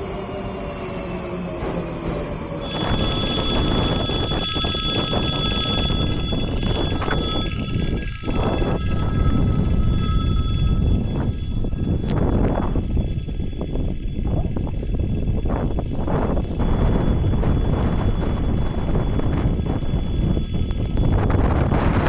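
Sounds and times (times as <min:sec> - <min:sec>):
thin high-pitched tones: 0:00.0 - 0:22.0
train rumbling: 0:00.0 - 0:22.0.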